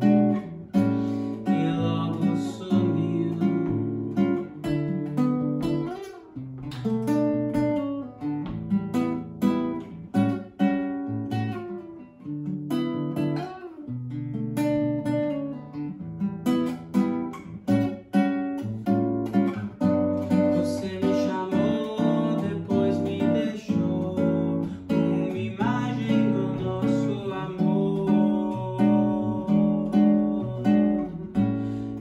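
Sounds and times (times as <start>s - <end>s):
fingerstyle classical guitar: 0.0s - 32.0s.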